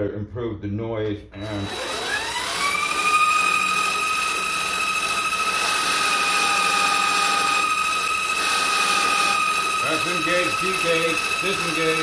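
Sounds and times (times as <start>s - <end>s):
lathe motor high-pitched howl: 1.4s - 12.0s.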